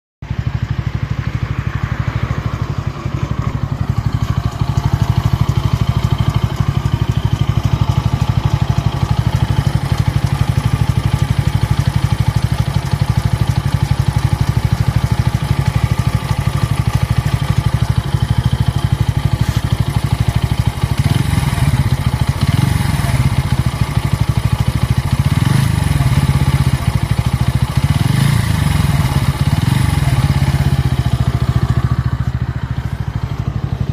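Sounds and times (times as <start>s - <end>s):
motorcycle engine idling and revving: 0.2s - 33.9s.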